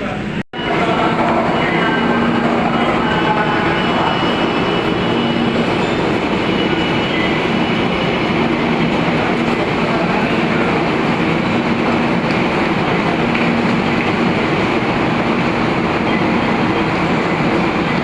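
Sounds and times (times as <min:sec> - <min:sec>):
train rail noise: 0:00.0 - 0:18.0.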